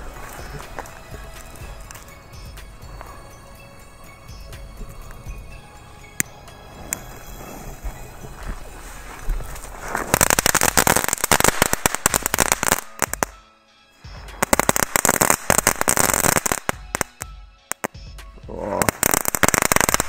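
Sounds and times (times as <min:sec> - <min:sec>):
firework crackling: 0:00.0 - 0:13.4, 0:14.1 - 0:20.0.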